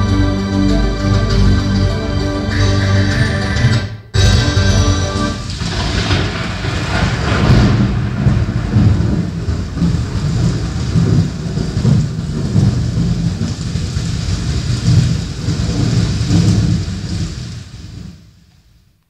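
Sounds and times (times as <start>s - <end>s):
rain hissing: 0.0s - 3.4s, 4.2s - 19.0s
thunder rumbling: 0.0s - 3.6s, 4.2s - 18.9s.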